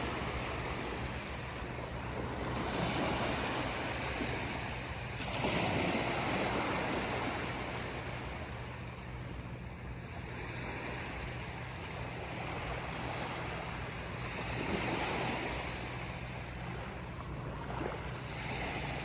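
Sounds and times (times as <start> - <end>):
ocean waves washing onto beach: 0.0 - 19.0
wind rumble on microphone: 0.0 - 19.0.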